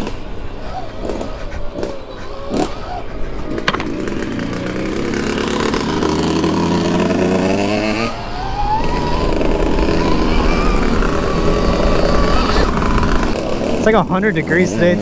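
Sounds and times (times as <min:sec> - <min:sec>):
electric motorbike motor whine: 0:00.0 - 0:15.0.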